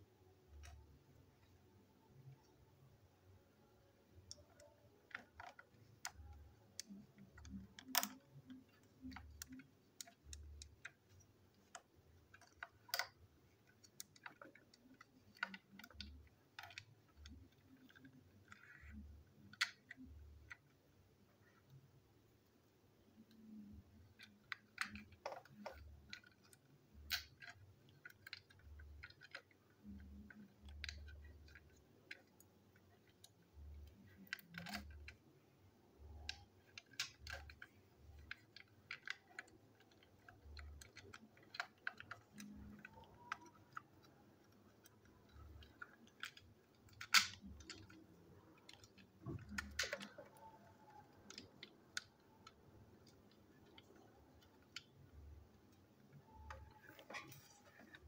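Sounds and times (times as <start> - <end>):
plastic toy parts clicking: 0.2 - 2.6, 3.2 - 58.0.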